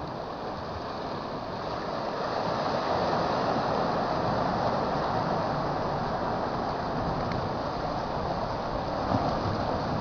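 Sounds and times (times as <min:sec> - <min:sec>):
ocean surf rushing: 0:00.0 - 0:10.0.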